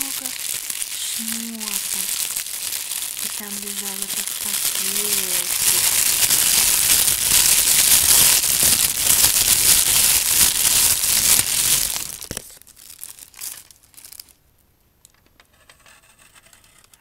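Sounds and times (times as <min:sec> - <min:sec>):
plastic bag crinkling: 0:00.0 - 0:14.5.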